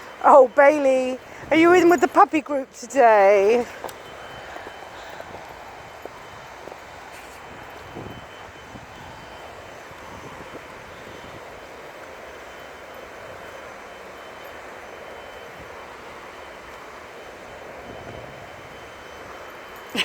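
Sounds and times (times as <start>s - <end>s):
aircraft passing overhead: 3.6s - 20.0s.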